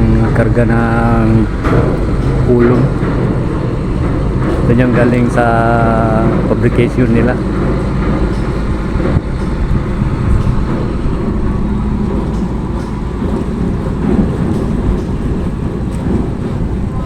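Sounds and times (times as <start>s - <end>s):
heavy truck engine rumbling: 0.0s - 17.0s
road traffic: 0.0s - 17.0s.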